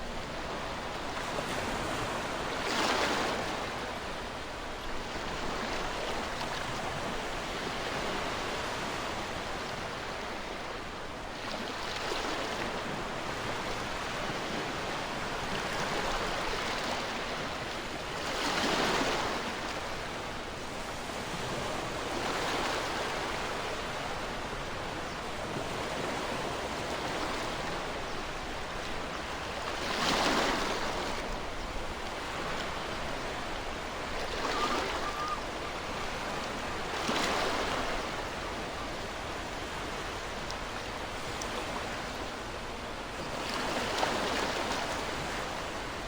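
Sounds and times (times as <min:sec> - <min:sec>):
ocean waves breaking on shore: 0:00.0 - 0:46.0.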